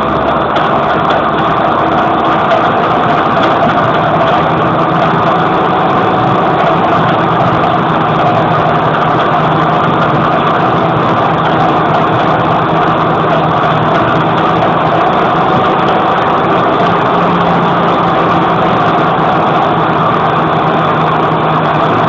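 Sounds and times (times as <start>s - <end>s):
tractor diesel engine unmuffled: 0.0s - 22.0s.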